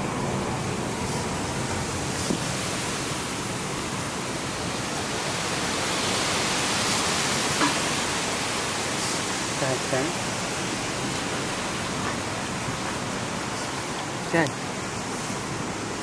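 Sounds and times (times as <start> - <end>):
car road and air noise: 0.0 - 16.0.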